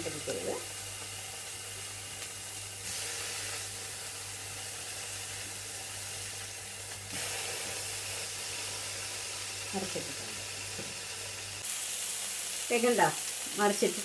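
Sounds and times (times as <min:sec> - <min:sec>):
fish sizzling in a frying pan: 0:00.0 - 0:14.0.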